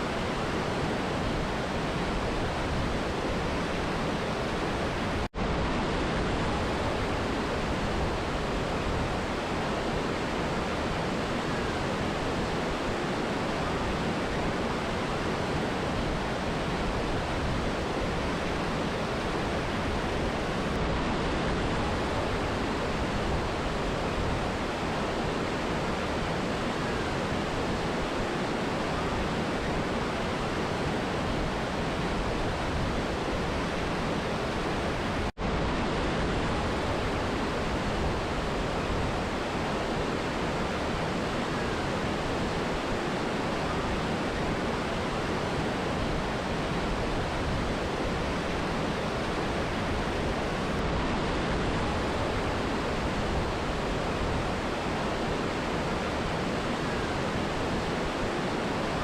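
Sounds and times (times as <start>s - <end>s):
river and waterfall rushing: 0.0s - 59.0s.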